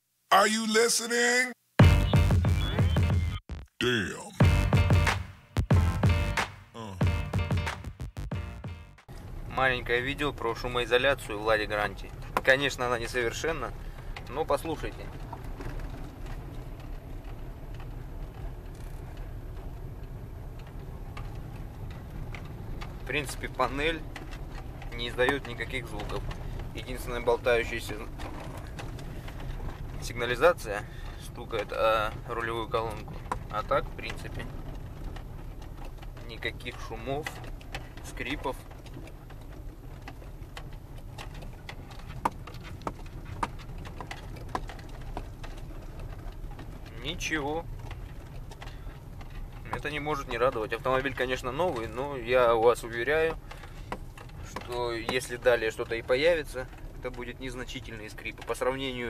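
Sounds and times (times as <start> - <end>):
car cabin low rumble: 8.6 - 59.0
light clicks and knocks: 10.2 - 59.0.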